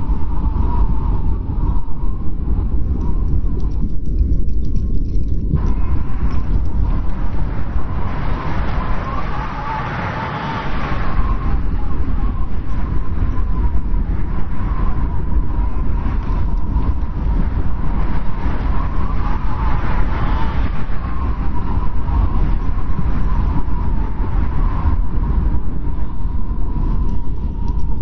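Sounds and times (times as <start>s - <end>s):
strong wind rumbling and whistling: 0.0s - 28.0s.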